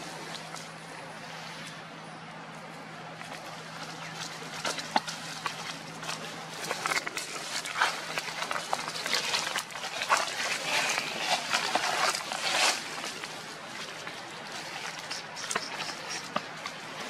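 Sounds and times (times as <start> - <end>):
dry leaves crackling and rustling: 3.3 - 17.0.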